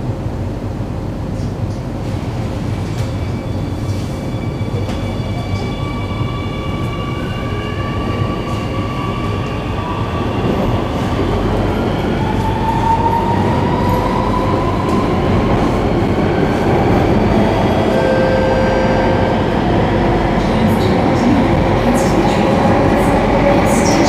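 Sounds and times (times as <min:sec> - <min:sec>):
train wheel and running noise: 0:00.0 - 0:24.0.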